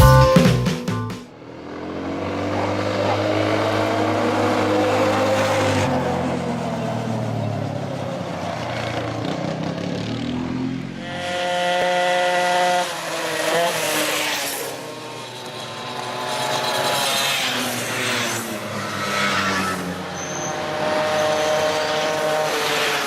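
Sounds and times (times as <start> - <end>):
motorcycle engines revving: 1.3 - 23.0.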